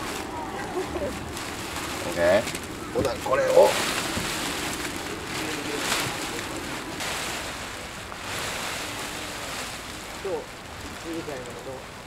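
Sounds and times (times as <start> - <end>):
tent fabric rustling: 0.0 - 12.0.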